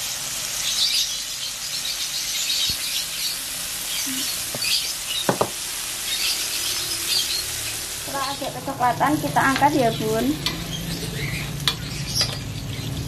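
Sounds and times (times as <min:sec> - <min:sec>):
shrimp deep-frying in oil: 0:00.0 - 0:13.0.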